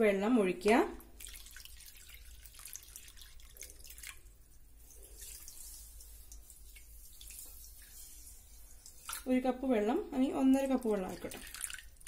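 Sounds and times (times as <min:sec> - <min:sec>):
water trickling into pan: 0:01.0 - 0:12.0.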